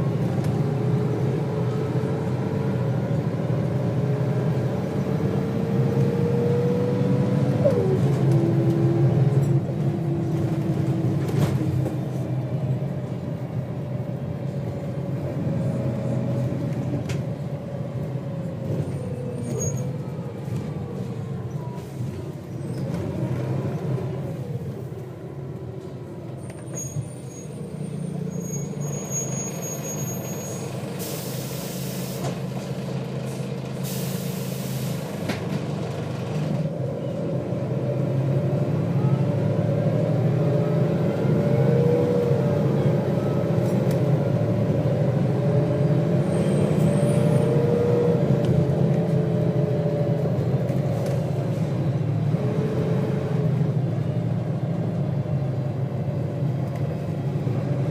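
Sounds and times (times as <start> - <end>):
bus diesel engine running: 0.0 - 57.9.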